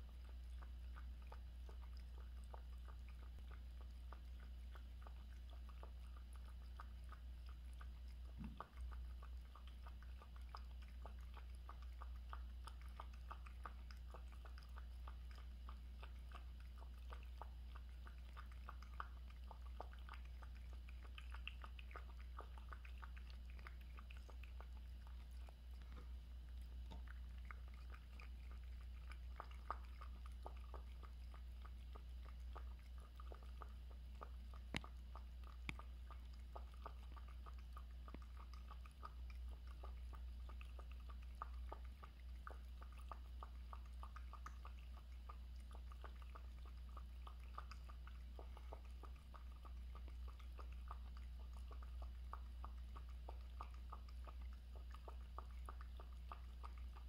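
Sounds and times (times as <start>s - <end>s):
cat lapping water: 0.0s - 57.0s
low steady hum: 0.0s - 57.0s.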